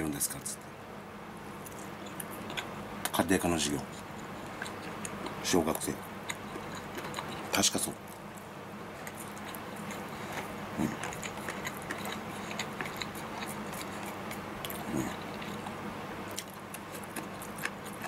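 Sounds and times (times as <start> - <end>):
person chewing food: 1.6 - 18.0.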